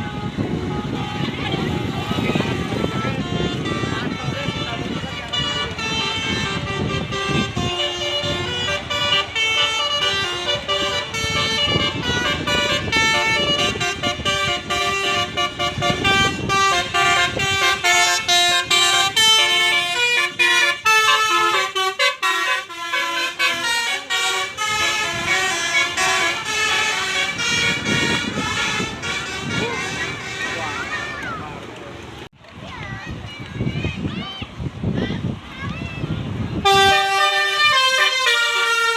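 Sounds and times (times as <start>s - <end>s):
bus musical horn melody: 0.0s - 31.2s, 36.6s - 38.9s.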